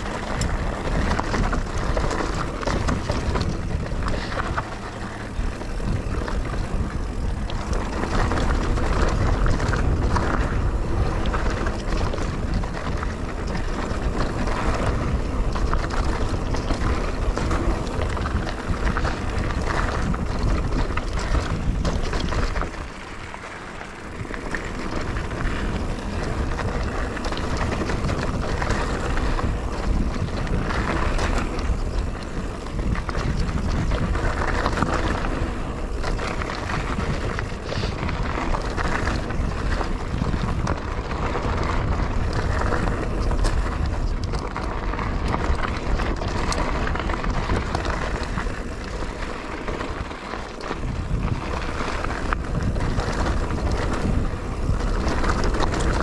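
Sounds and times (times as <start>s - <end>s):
wind on microphone: 0.0s - 23.3s, 24.0s - 56.0s
bike clicks and rattles: 0.0s - 56.0s
bike tyre noise on dirt: 0.0s - 56.0s.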